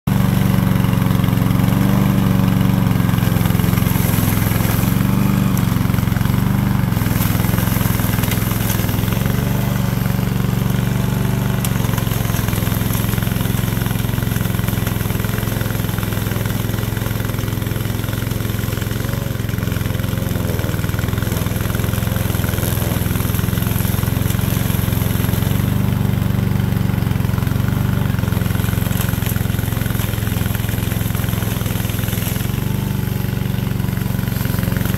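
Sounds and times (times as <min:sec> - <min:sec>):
mower engine drone: 0:00.1 - 0:34.9.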